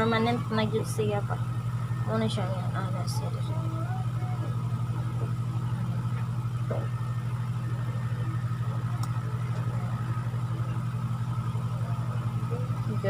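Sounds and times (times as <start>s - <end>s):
pulsing motor hum: 0.0s - 13.0s.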